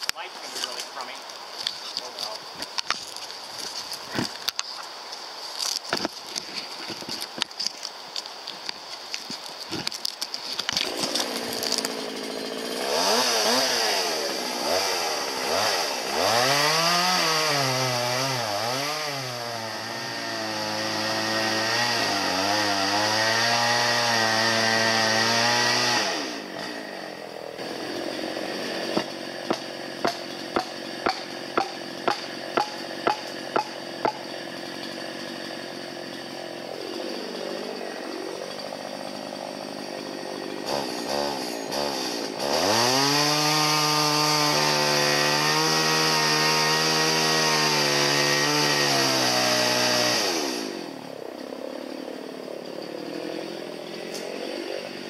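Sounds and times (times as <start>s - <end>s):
chainsaw cutting and idling: 9.4s - 55.0s.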